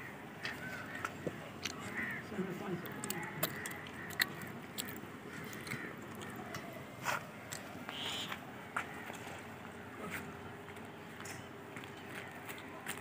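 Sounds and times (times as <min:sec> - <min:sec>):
people eating by hand: 0:00.0 - 0:13.0.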